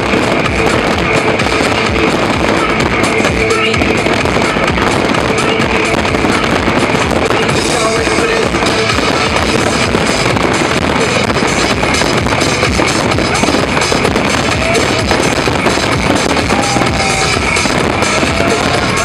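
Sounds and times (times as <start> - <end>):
fireworks crackling and popping: 0.0 - 19.0
loud music: 0.0 - 19.0.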